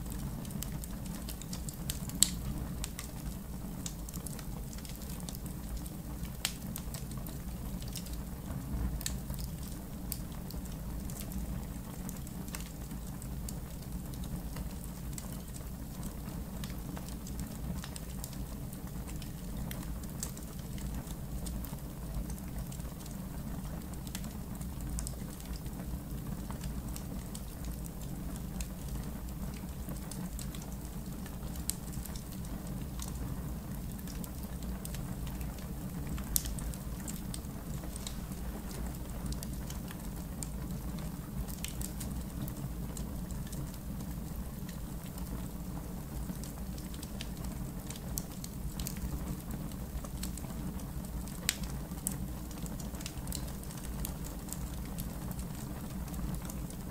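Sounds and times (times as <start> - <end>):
campfire crackling: 0.0 - 56.9
fire popping and snapping: 0.0 - 56.9.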